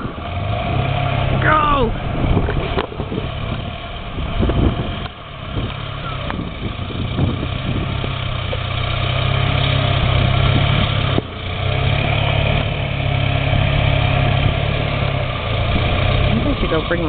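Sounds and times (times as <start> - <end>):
pickup truck engine straining: 0.0 - 17.0.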